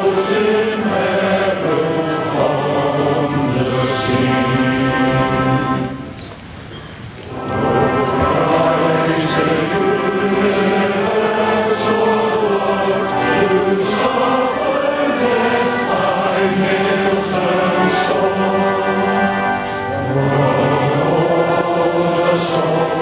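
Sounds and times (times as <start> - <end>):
choir singing sustained chords: 0.0 - 6.2, 7.3 - 23.0.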